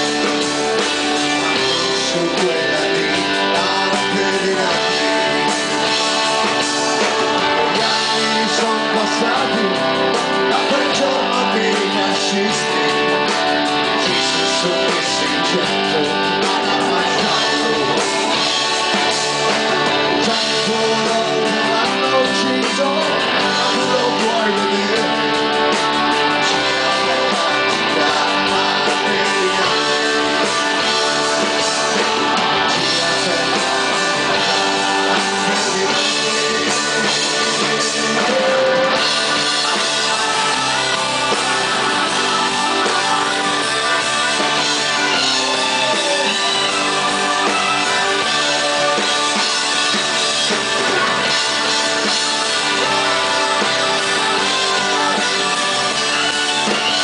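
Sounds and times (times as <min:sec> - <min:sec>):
bass guitar: 0:00.0 - 0:57.0
drums: 0:00.0 - 0:57.0
electric guitars: 0:00.0 - 0:57.0.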